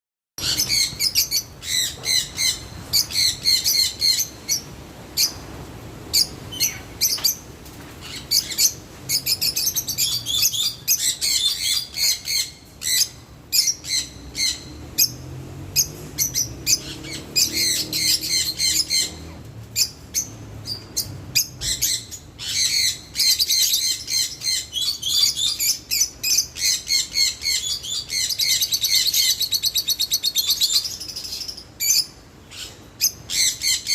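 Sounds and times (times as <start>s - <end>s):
lovebirds chirping and chattering: 0.4s - 33.9s.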